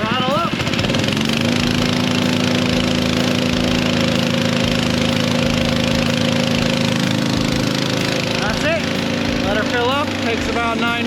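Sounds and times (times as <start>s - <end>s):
engine-driven pump running: 0.0s - 11.0s.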